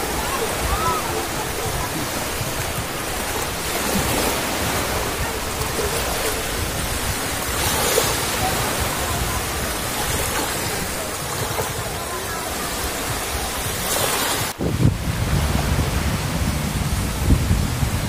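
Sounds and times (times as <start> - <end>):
small waves breaking in surf: 0.0 - 18.0.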